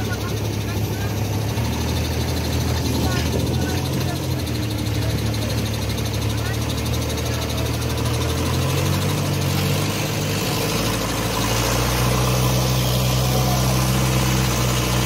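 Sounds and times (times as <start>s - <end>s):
crane diesel engine running: 0.0s - 15.0s.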